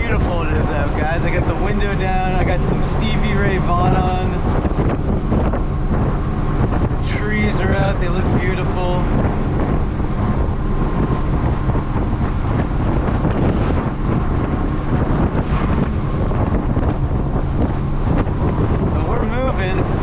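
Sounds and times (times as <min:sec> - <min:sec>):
truck engine and road drone: 0:00.0 - 0:20.0
wind buffeting microphone: 0:00.0 - 0:20.0.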